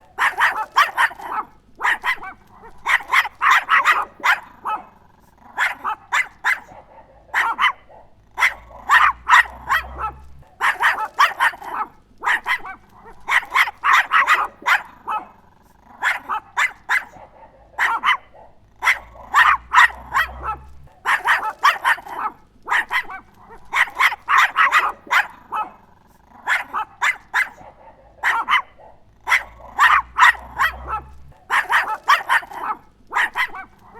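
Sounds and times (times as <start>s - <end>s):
small dog barking: 0.0s - 33.9s.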